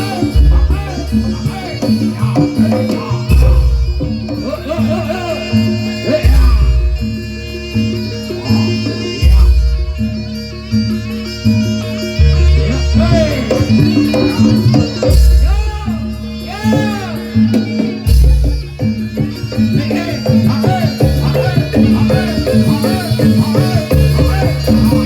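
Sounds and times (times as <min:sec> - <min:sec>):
steady drone: 0:00.0 - 0:25.0
wavering reedy melody: 0:00.0 - 0:25.0.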